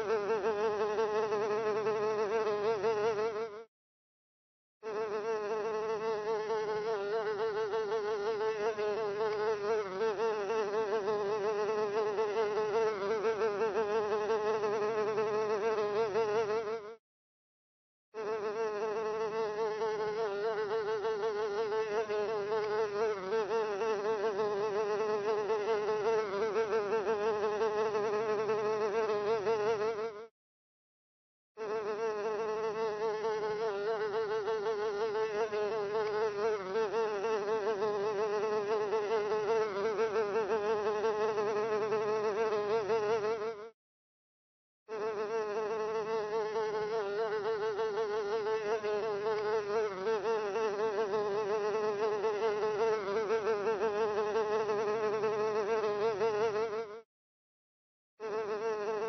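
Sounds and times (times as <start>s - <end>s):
housefly buzzing: 0.0s - 3.7s, 4.8s - 17.0s, 18.2s - 30.4s, 31.6s - 43.8s, 44.9s - 57.1s, 58.2s - 59.0s.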